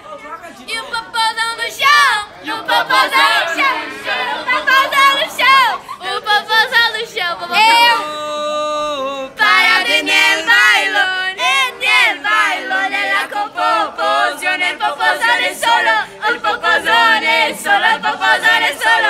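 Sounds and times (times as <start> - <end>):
young voices singing together: 0.8 - 19.0.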